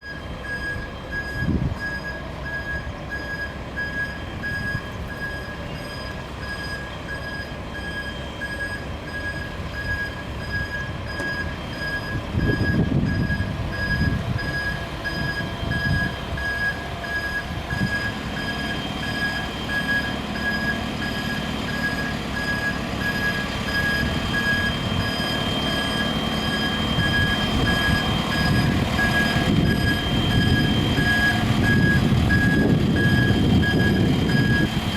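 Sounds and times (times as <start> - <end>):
diesel engine running: 0.0 - 34.9
reversing alarm beeping: 0.0 - 34.9.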